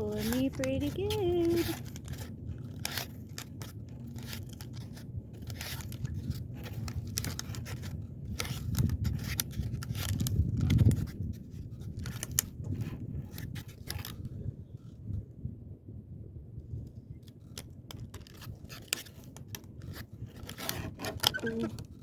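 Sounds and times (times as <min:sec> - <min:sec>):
fishing line scraping and clicking: 0:00.0 - 0:14.3, 0:17.5 - 0:22.0.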